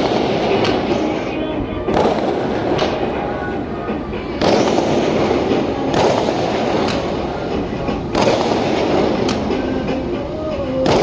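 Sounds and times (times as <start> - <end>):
loud firecracker bangs: 0.0 - 3.6, 4.2 - 9.7, 10.8 - 11.0
string of firecrackers bursting: 0.0 - 11.0.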